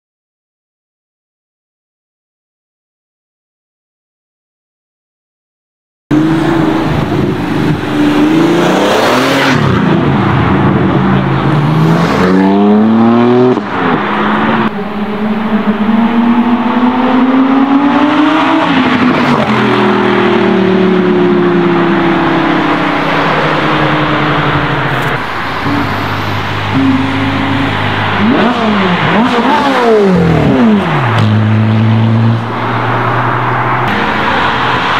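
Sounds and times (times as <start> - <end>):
sports car engines accelerating: 6.1 - 34.9.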